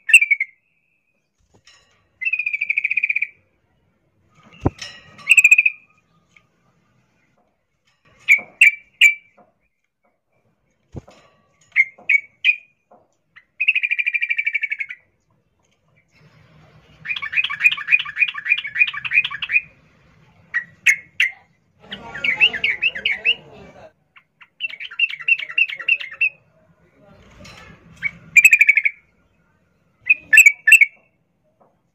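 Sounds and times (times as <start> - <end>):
bird chirps and rattling trills: 0.0 - 23.4, 24.0 - 31.2.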